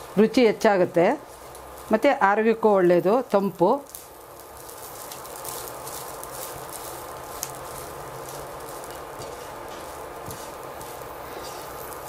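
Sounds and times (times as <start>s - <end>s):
rice sizzling in a frying pan: 0.0s - 12.0s.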